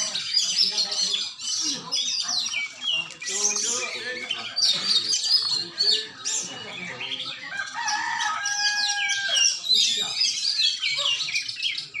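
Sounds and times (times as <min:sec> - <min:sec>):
songbirds chorus of trills: 0:00.0 - 0:12.0.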